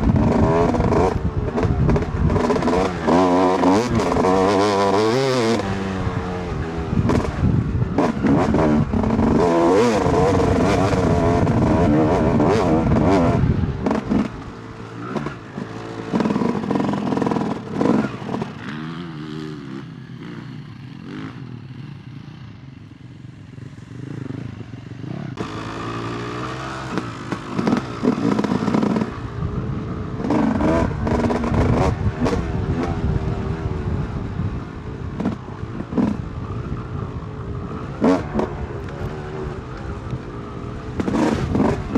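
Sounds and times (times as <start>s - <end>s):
dirt bike engine revving: 0.0s - 21.5s, 24.0s - 41.9s.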